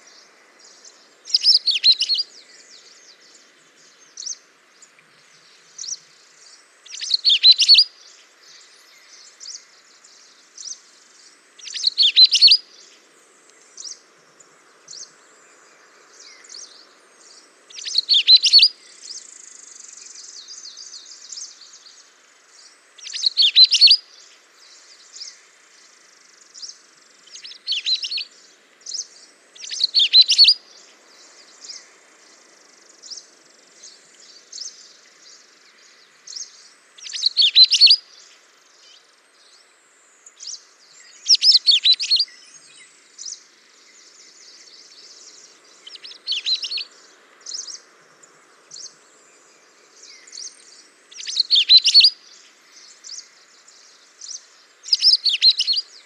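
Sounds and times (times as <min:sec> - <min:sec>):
soft bird chirps: 0:00.0 - 0:56.0
songbird singing: 0:00.0 - 0:56.0.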